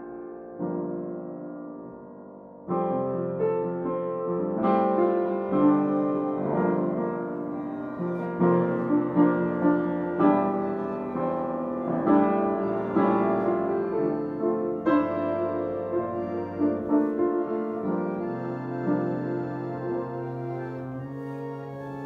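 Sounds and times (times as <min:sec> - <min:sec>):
slow keyboard music: 0:00.0 - 0:22.0.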